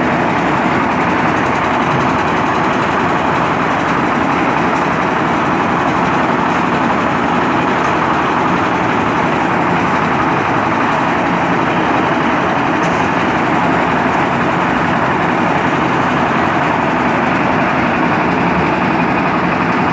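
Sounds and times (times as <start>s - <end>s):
concrete mixer engine running: 0.0s - 19.9s.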